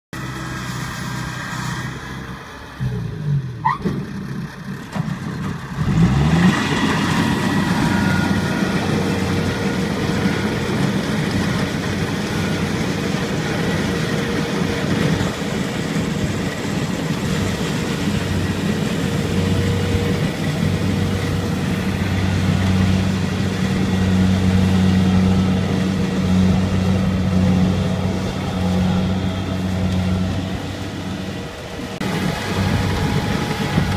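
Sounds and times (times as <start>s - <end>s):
combine harvester engine droning: 0.2s - 33.9s.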